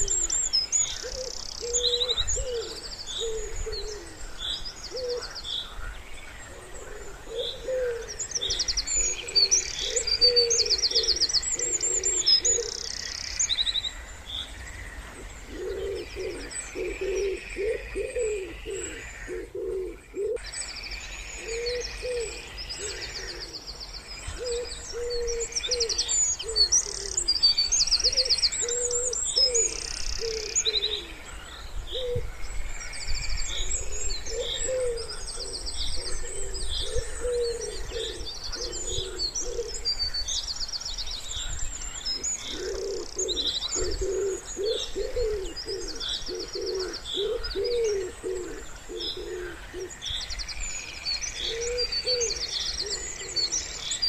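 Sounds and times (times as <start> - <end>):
wood pigeons cooing: 0.0 - 13.0, 15.1 - 20.4, 21.4 - 27.4, 28.0 - 32.4, 33.5 - 40.2, 42.1 - 50.1, 51.4 - 53.8
songbirds trilling: 0.0 - 54.0.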